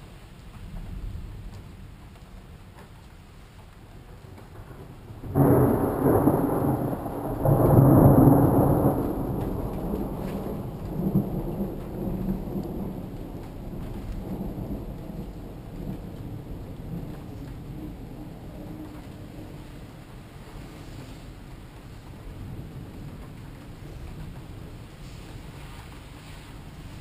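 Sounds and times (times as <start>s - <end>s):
steady rain: 0.0s - 27.0s
thunder clap and rumble: 4.0s - 27.0s.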